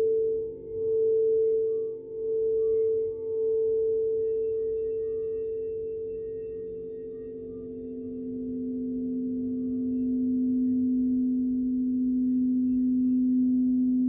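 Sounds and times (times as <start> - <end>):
singing bowl tone: 0.0 - 14.0.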